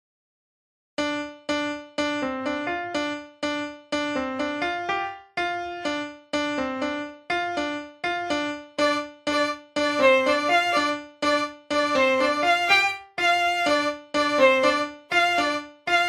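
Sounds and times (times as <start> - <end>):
piano melody: 1.0 - 16.0.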